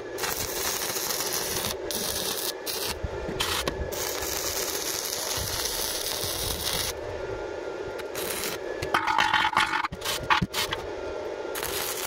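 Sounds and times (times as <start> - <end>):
welding arc crackling and hissing: 0.0 - 7.0, 8.0 - 10.8, 11.5 - 12.0.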